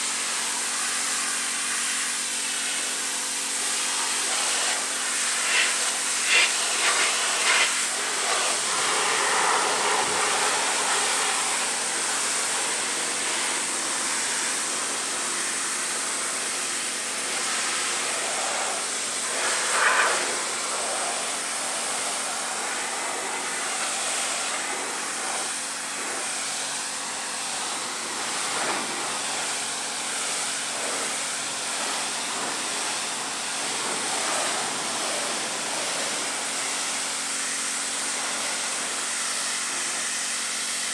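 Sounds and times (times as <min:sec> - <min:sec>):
pressure washer jet hissing: 0:00.1 - 0:40.9.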